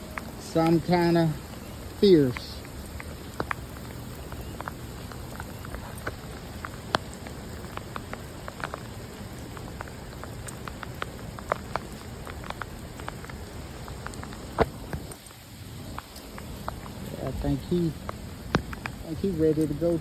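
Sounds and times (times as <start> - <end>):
heavy rain pouring: 0.0 - 20.0
sharp raindrop impacts: 0.0 - 20.0.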